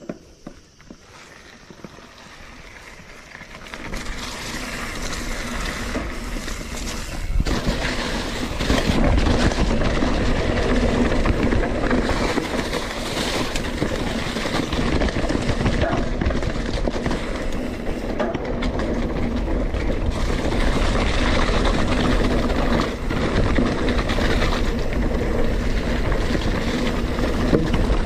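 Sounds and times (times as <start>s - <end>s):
bike rattling: 0.0s - 28.0s
bike tyres rolling on dirt: 0.0s - 28.0s.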